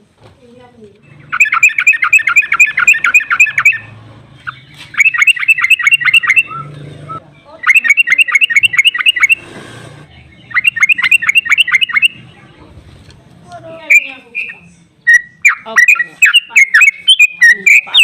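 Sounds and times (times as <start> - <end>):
bird chattering song: 1.0 - 9.4, 10.0 - 12.6, 13.8 - 18.0.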